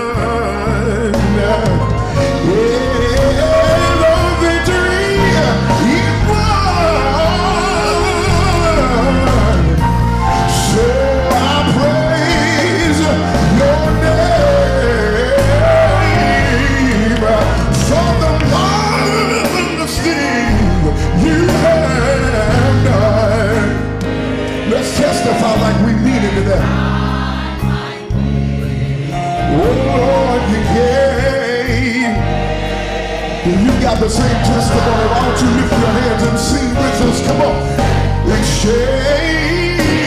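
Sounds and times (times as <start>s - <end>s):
band playing: 0.0s - 40.0s
choir singing: 0.0s - 40.0s
man singing gospel: 0.0s - 40.0s.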